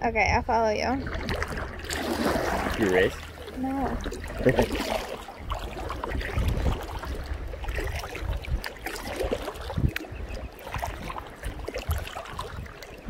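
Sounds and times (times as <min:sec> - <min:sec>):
water lapping on hull: 0:00.0 - 0:13.0
wind rumble on microphone: 0:00.0 - 0:13.0
paddle splashes: 0:01.0 - 0:13.0.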